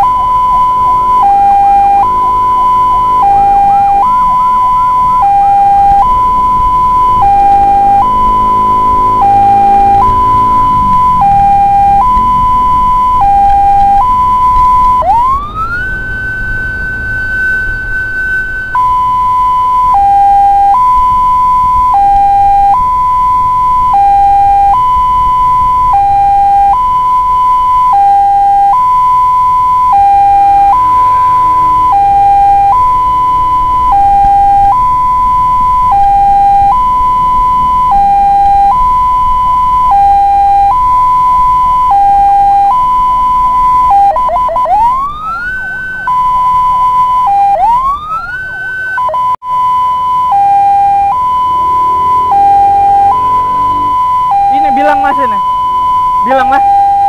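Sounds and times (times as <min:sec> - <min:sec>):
ambulance siren: 0:00.0 - 0:57.0.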